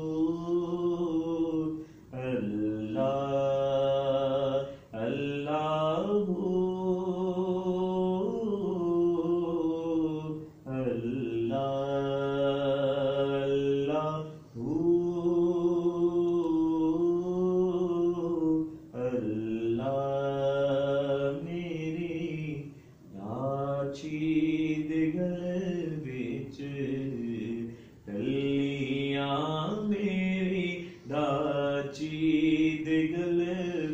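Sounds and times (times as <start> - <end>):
man chanting: 0.0 - 33.9.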